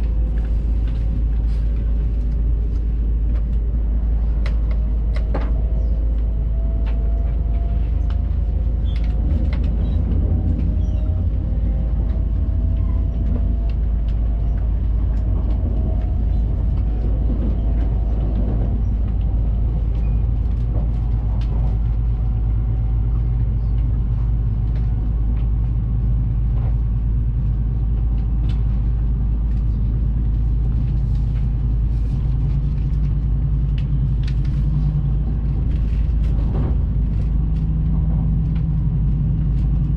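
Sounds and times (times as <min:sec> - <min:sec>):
train cabin rumble: 0:00.0 - 0:39.9.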